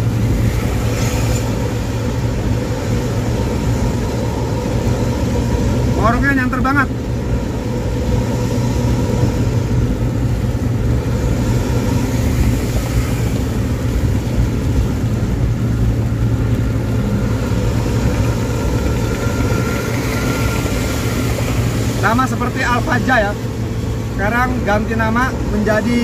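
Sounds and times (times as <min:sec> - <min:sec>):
bus engine droning: 0:00.0 - 0:26.0.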